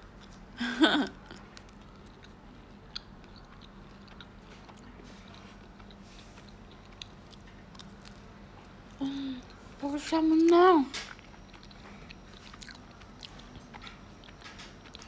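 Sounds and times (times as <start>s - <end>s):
person chewing food: 0.0s - 9.8s, 11.1s - 15.0s.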